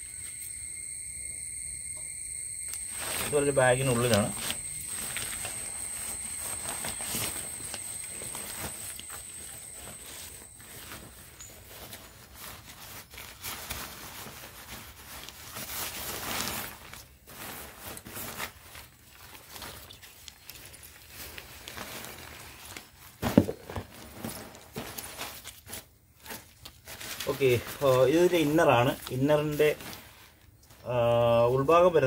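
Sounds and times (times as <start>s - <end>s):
tent fabric rustling and crinkling: 2.6s - 32.0s.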